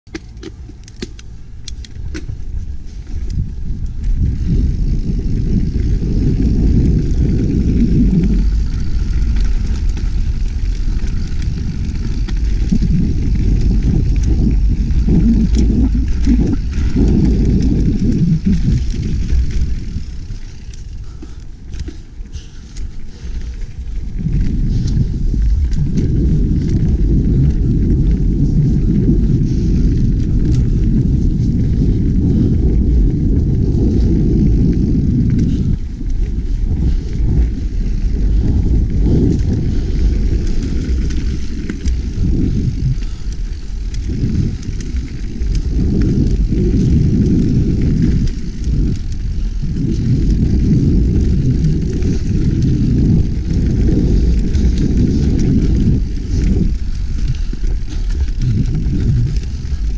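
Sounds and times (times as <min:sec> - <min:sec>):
bike tyres rolling on dirt: 0:00.0 - 0:59.9
wind rumble on microphone: 0:00.0 - 0:59.9
bike knocks and rattles: 0:00.1 - 0:59.9.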